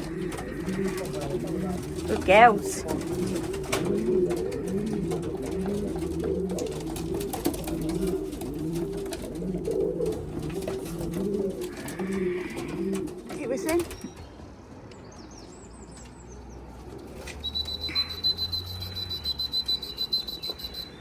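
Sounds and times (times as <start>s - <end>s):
pigeons cooing: 0.0s - 14.1s, 16.6s - 21.0s.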